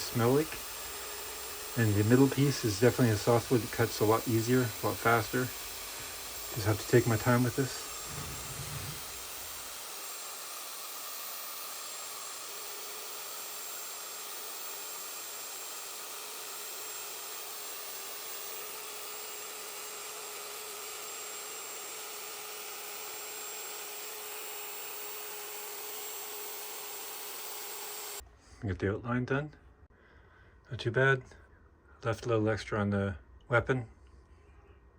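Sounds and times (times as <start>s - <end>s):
router cutting wood: 0.0s - 28.2s.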